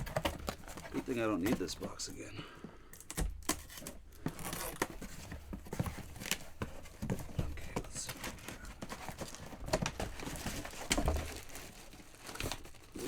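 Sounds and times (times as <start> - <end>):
cardboard box tearing: 0.0 - 1.6, 3.1 - 7.4, 8.1 - 13.0
packing crinkling: 0.0 - 13.0.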